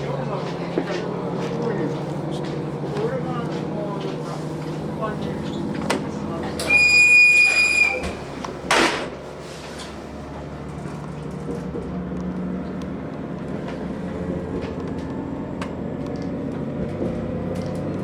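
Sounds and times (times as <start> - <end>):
bus diesel engine humming: 0.0 - 18.0.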